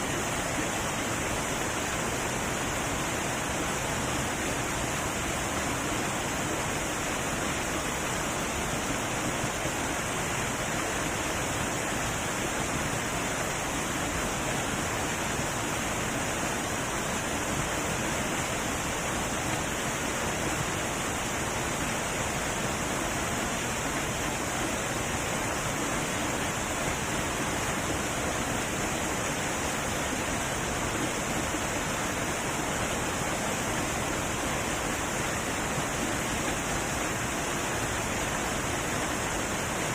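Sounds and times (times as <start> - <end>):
heavy waterfall rushing: 0.0 - 39.9.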